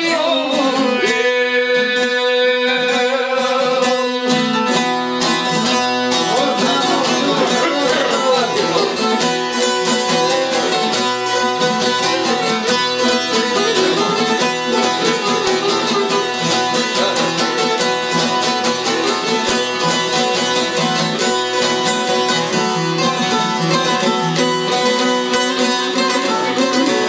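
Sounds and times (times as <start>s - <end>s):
bowed fiddle: 0.0s - 27.0s
plucked lutes: 0.0s - 27.0s.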